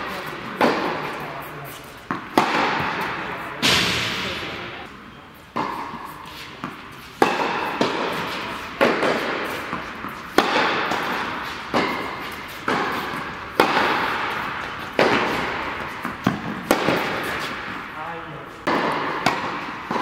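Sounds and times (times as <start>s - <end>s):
tennis racket hitting ball: 0.0s - 4.4s, 5.5s - 18.0s, 18.6s - 20.0s
tennis ball bouncing: 0.1s - 3.7s, 5.5s - 18.0s, 18.6s - 20.0s.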